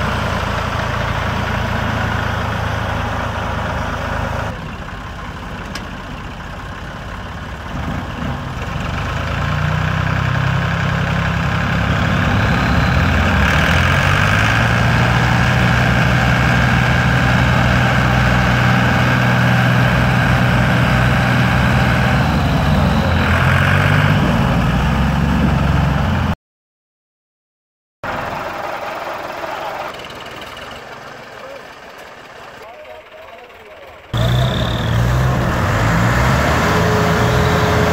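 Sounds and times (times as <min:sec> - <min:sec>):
tractor diesel engine labouring: 0:00.0 - 0:26.4, 0:28.0 - 0:37.9.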